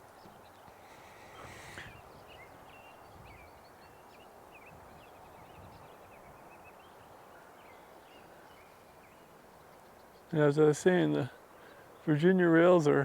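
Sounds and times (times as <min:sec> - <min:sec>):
low outdoor background noise: 0:00.0 - 0:13.0
small birds chirping: 0:00.0 - 0:13.0.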